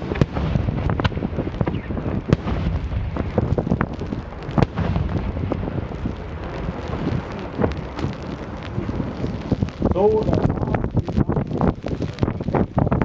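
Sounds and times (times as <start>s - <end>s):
continuous low rumble: 0.0s - 13.0s
fireworks bangs and crackles: 0.0s - 13.0s
wind on microphone: 0.0s - 13.0s.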